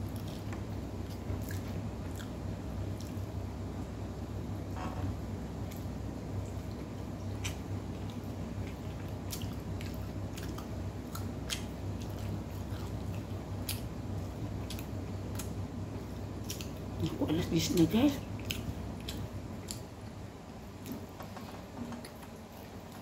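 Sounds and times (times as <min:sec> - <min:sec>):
chewing and tearing bread: 0:00.0 - 0:03.3, 0:06.6 - 0:17.1, 0:18.2 - 0:23.0
steady low hum: 0:00.0 - 0:23.0.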